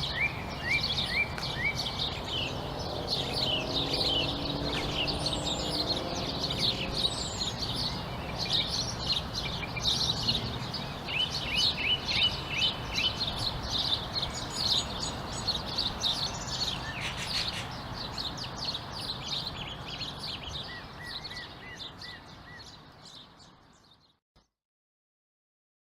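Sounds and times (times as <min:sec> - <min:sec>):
songbirds chirping and twittering: 0:00.0 - 0:24.2.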